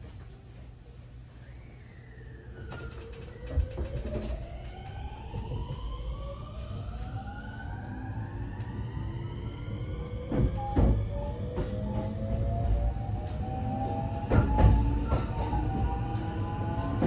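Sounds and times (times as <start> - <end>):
train rumble: 0.0 - 17.0
train inverter whine rising: 0.8 - 17.0.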